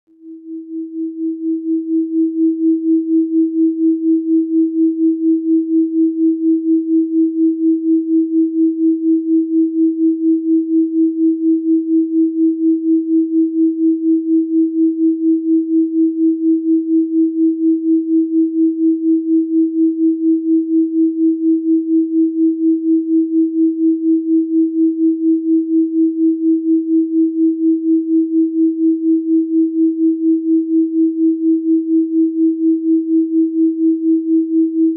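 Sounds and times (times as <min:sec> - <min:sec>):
pulsing sine tone: 0:00.1 - 0:34.9.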